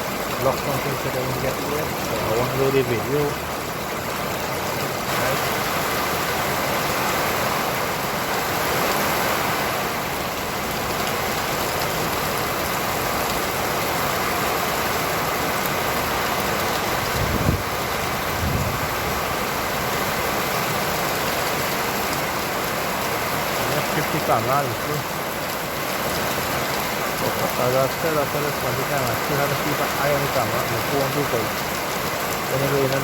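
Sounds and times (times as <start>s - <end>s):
heavy rain: 0.0s - 33.0s
traffic on wet street: 0.0s - 33.0s.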